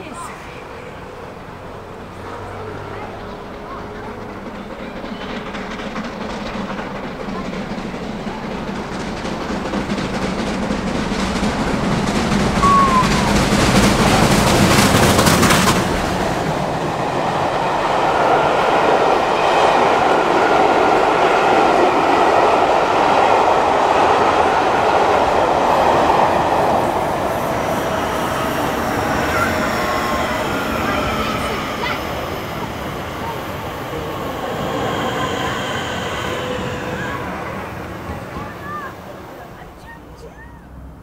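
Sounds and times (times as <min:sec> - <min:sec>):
steam locomotive passing: 0:00.0 - 0:41.0
train carriages rumbling past: 0:00.0 - 0:41.0.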